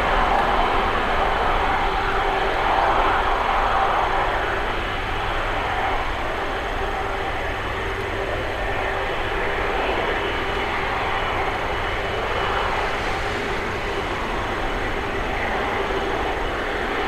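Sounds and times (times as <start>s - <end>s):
faint steady whine: 0.0s - 17.0s
jet engine noise: 0.0s - 17.0s.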